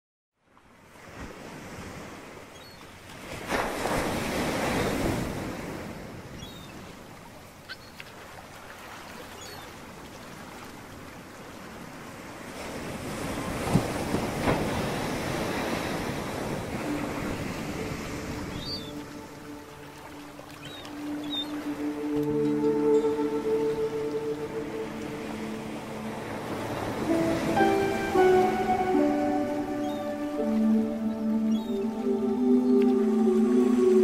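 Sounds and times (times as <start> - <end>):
big waves breaking: 0.7 - 34.0
ocean waves washing: 0.7 - 34.0.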